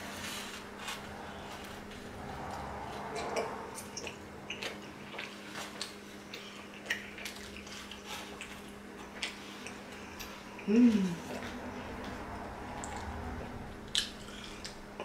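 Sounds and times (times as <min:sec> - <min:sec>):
person chewing pizza: 0:00.0 - 0:15.0.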